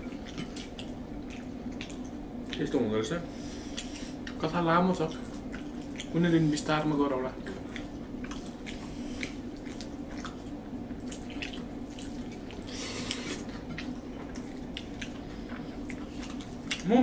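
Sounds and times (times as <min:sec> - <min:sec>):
wet chewing smacks: 0:00.0 - 0:02.8, 0:03.6 - 0:06.6, 0:07.4 - 0:17.0
steady low hum: 0:00.0 - 0:17.0.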